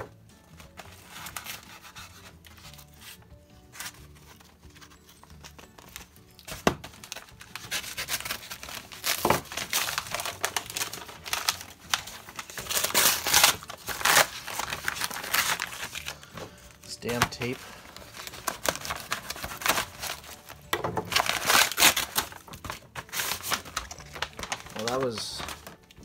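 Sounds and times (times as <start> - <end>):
paper tearing and crumpling: 0.6 - 26.0.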